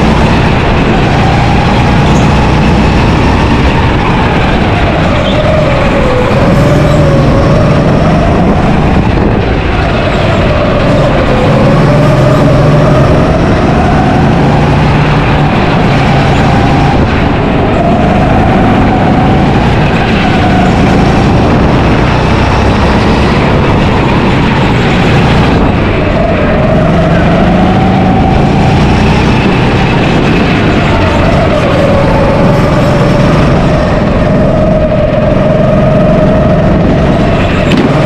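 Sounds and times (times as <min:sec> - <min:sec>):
go-kart engine revving: 0:00.0 - 0:38.0.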